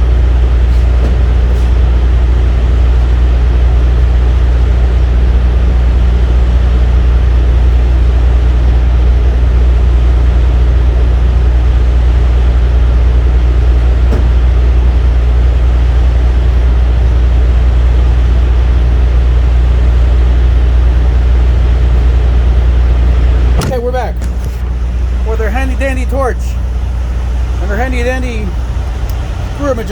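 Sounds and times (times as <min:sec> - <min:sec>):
machine droning: 0:00.0 - 0:29.9.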